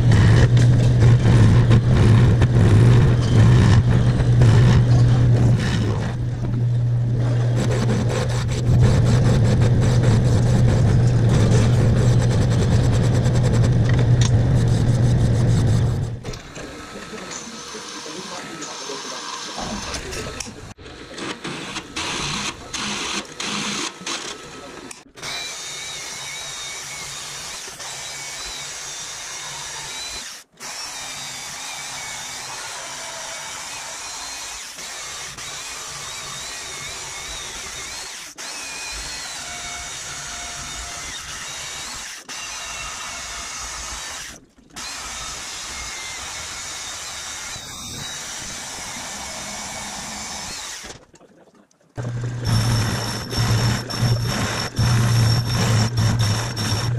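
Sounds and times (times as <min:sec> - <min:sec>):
bandsaw cutting steel: 0:00.0 - 0:06.3, 0:07.2 - 0:51.0, 0:52.0 - 0:56.9
milling machine drilling steel: 0:00.0 - 0:51.0, 0:52.0 - 0:56.9.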